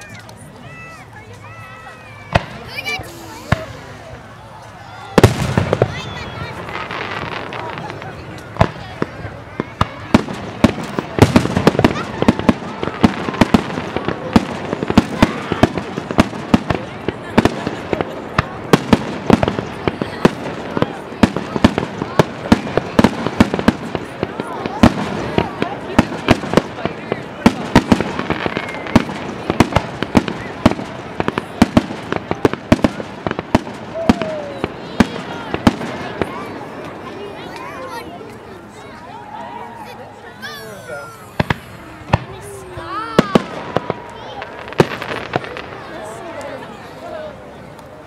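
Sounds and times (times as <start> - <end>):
fireworks bangs and cracks: 0.0 - 39.2, 41.1 - 48.0.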